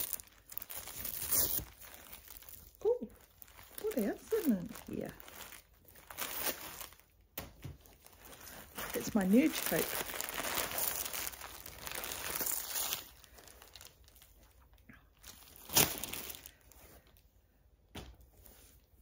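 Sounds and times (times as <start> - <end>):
plastic bag crinkling: 0.0 - 17.2.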